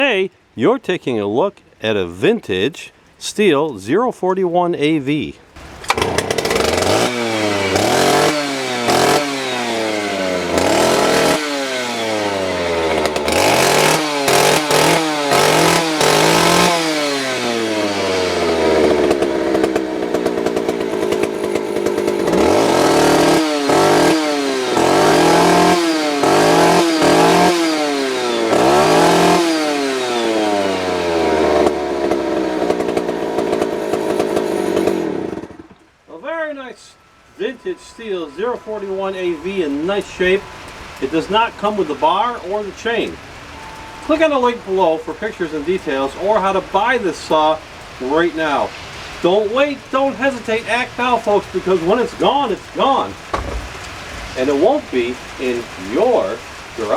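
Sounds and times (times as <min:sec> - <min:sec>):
chainsaw engine revving and idling: 0:05.6 - 0:35.9, 0:37.0 - 0:56.9.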